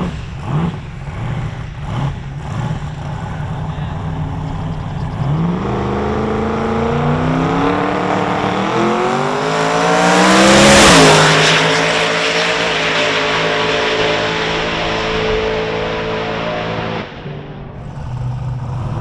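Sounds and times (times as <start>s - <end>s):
drag car engine revving: 0.0s - 19.0s.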